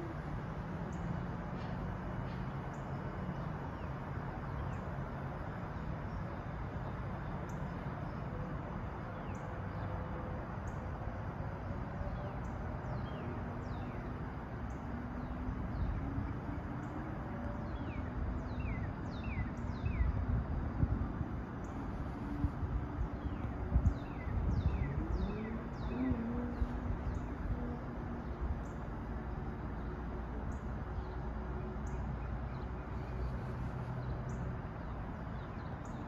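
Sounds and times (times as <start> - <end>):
background hiss and low hum: 0.0 - 36.0.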